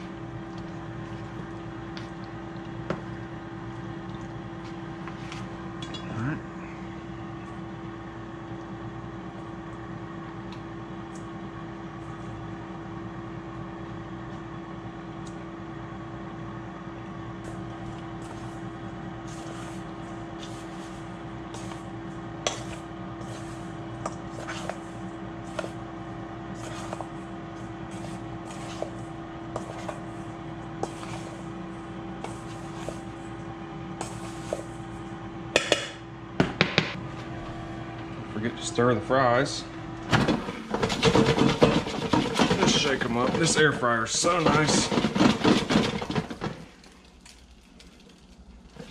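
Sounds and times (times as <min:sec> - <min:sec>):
appliance fan hum: 0:00.0 - 0:48.9.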